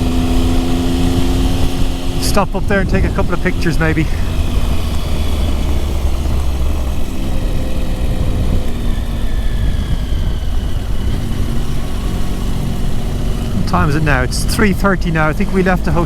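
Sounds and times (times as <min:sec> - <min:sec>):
low rumble of noise: 0:00.0 - 0:16.0
motorcycle engine running: 0:00.0 - 0:16.0.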